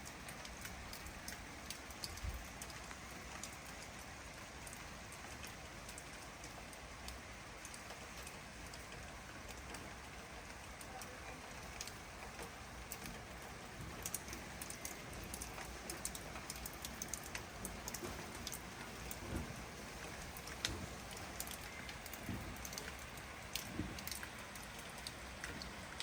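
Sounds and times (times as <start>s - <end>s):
steady rainfall: 0.0s - 26.0s.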